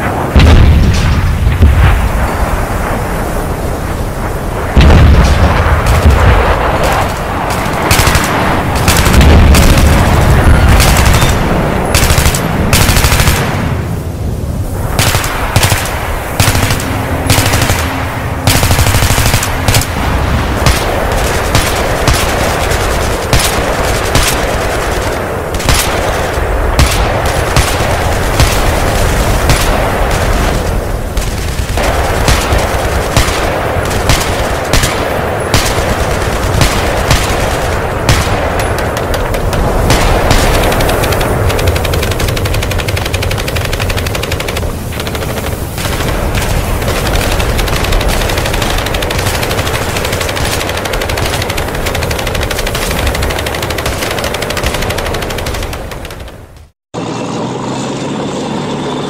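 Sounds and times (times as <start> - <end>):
machine-gun bursts: 6.8 - 13.5, 15.0 - 20.0, 20.6 - 56.5.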